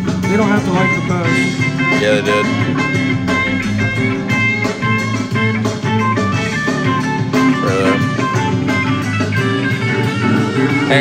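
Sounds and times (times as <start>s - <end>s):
band music with electric guitar: 0.0s - 11.0s.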